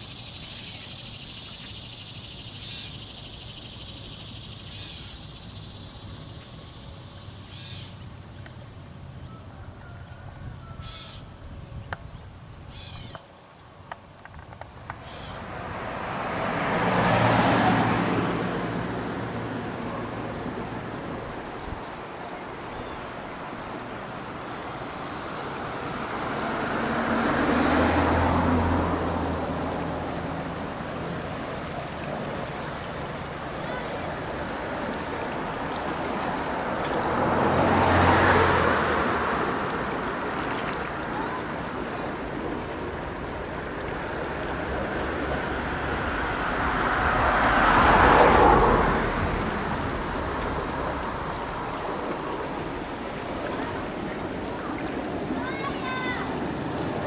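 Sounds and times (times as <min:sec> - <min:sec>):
vehicles passing by: 0:00.0 - 0:11.4, 0:14.0 - 0:57.0.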